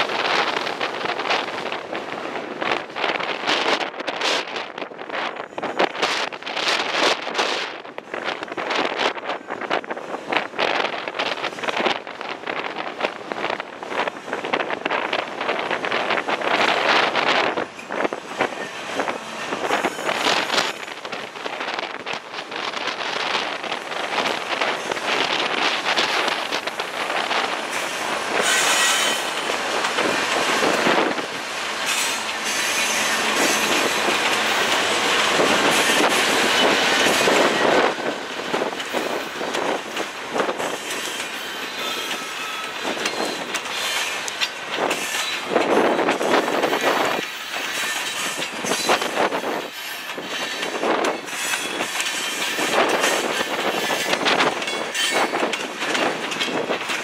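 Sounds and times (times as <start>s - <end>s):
diesel locomotive passing: 0.0s - 57.0s
steel wheels rumbling: 5.4s - 57.0s.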